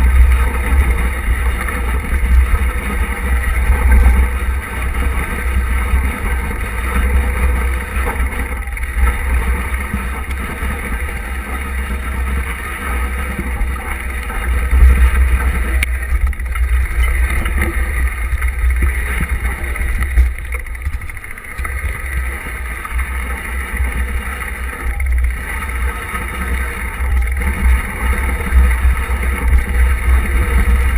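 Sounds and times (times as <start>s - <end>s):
bike ride vibration rumble: 0.0s - 30.9s.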